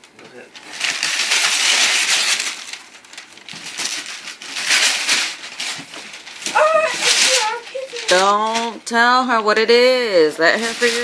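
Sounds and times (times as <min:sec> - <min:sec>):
wrapping paper tearing and crumpling: 0:00.3 - 0:08.9, 0:10.4 - 0:11.0.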